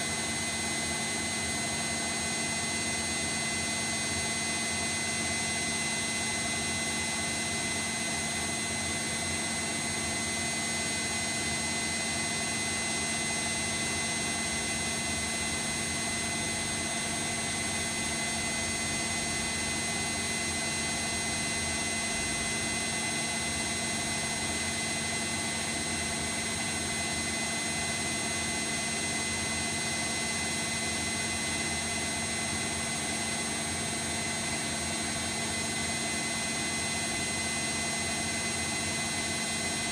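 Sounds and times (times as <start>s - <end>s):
washing machine spinning: 6.8s - 39.9s.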